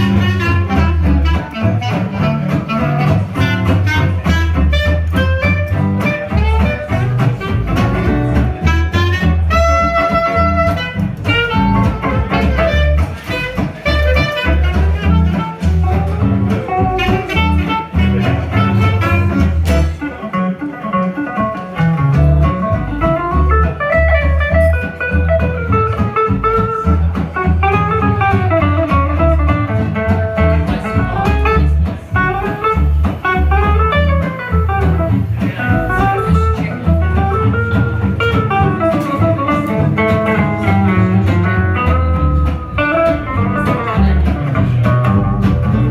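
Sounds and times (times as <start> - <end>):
acoustic guitar: 0.0 - 45.9
double bass: 0.0 - 45.9
swing jazz band playing: 0.0 - 45.9.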